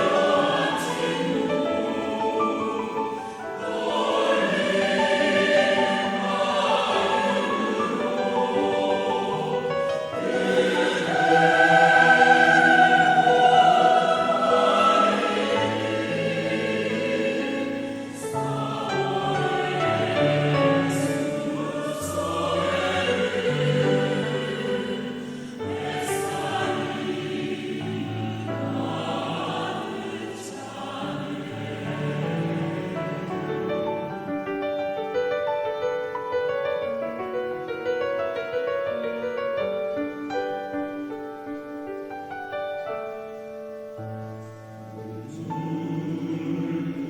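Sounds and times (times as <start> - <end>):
choir singing: 0.0 - 36.4, 44.4 - 47.0.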